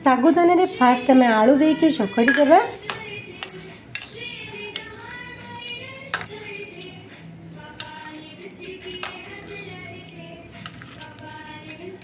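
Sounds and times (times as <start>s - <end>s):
quiet background music: 0.0s - 12.0s
bangles clinking: 2.3s - 12.0s.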